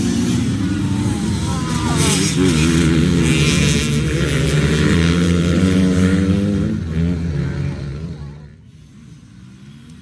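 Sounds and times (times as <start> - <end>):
dirt bikes racing past: 0.0 - 10.0.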